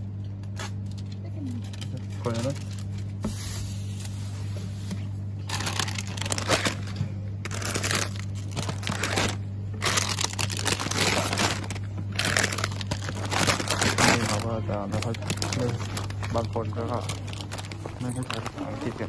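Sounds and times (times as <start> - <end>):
steady low hum: 0.0 - 19.0
crinkling rustling noise: 0.2 - 19.0.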